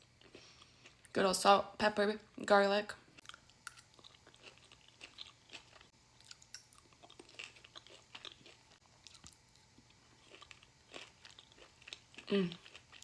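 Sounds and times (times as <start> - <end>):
person chewing food: 0.2 - 1.1, 3.2 - 13.0.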